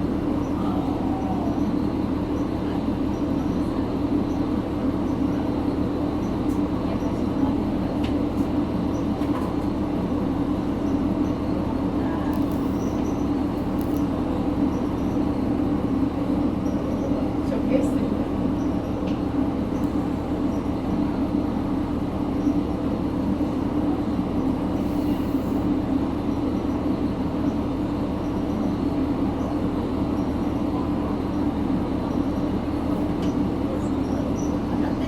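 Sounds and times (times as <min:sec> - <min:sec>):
rail and body noise: 0:00.0 - 0:35.0.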